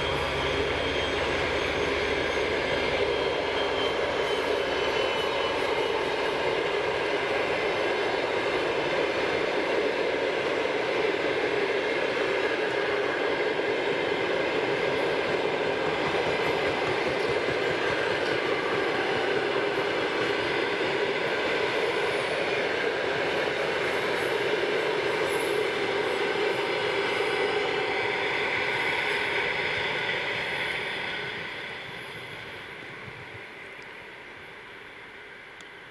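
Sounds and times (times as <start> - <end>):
diesel locomotive engine drone: 0.0 - 35.9
train wheels on rails: 0.0 - 35.9.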